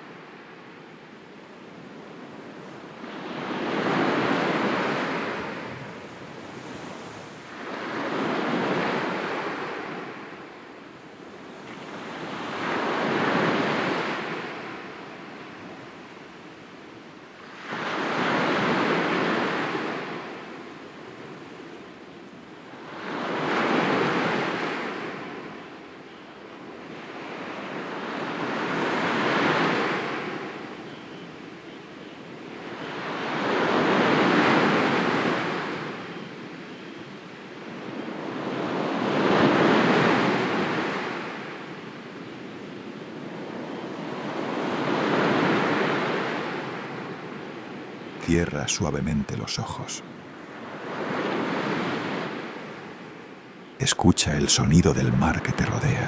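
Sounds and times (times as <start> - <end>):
sea waves breaking on shore: 0.0 - 26.0, 26.6 - 56.0.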